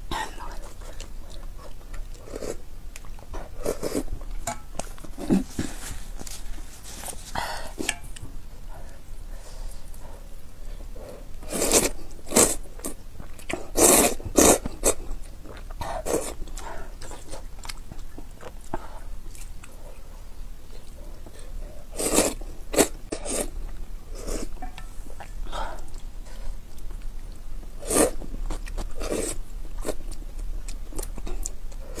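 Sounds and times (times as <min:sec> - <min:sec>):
quiet chewing: 0:00.4 - 0:08.9, 0:11.1 - 0:32.0.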